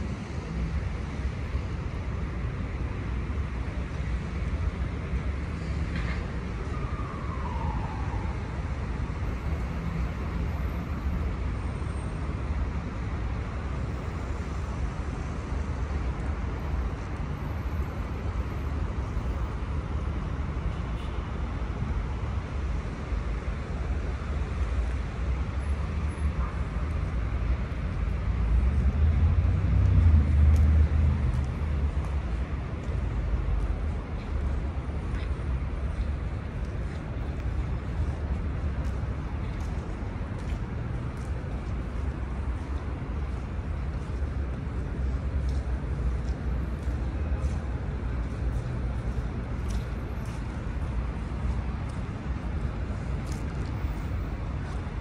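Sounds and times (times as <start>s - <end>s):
city road traffic rumble: 0.0s - 55.0s.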